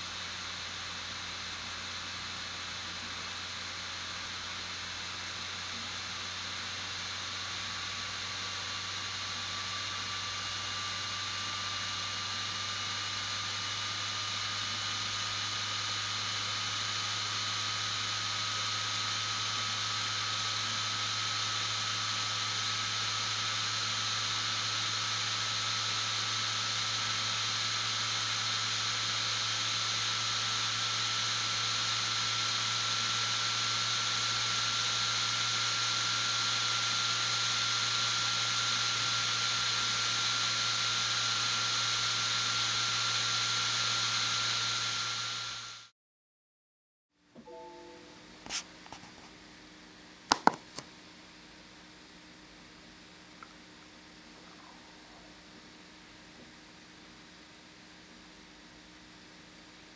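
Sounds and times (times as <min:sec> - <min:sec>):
laptop fan whirring: 0:00.0 - 0:45.9, 0:48.0 - 0:59.5.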